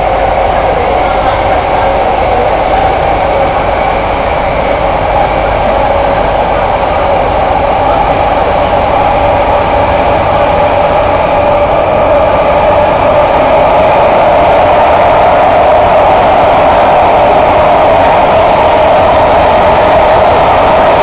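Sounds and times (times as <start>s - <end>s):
train running rumble: 0.0s - 21.0s
train whine: 0.0s - 21.0s.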